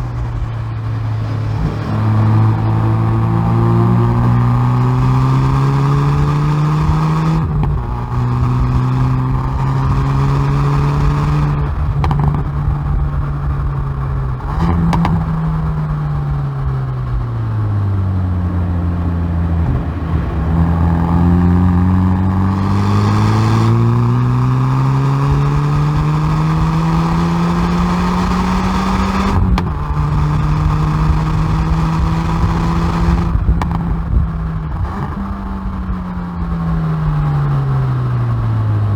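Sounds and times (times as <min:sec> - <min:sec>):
car engine and exhaust accelerating: 0:00.0 - 0:38.9.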